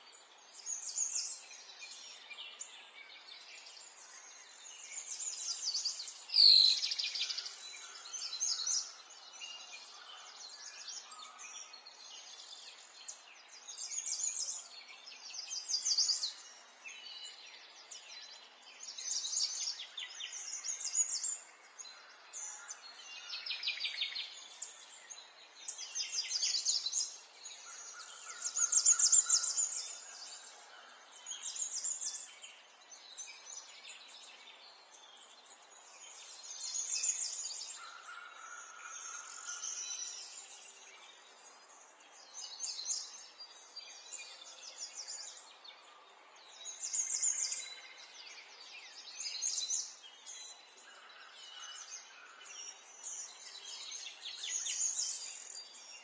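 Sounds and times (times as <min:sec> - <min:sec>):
faint background hiss: 0:00.0 - 0:56.0.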